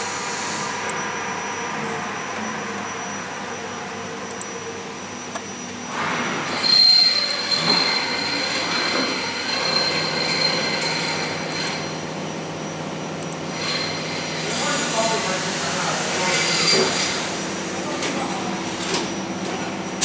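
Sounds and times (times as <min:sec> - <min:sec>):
machinery noise with hiss: 0:00.0 - 0:20.0.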